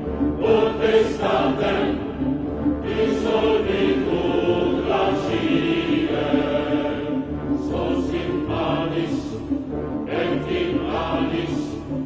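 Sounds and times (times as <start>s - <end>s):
music with chant-like singing: 0.0s - 12.0s.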